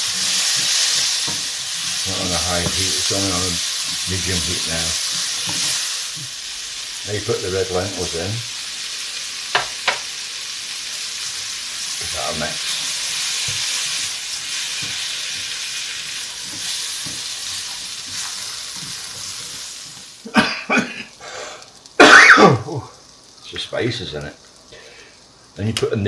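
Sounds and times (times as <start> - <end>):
vegetables sizzling in a wok: 0.0 - 26.0.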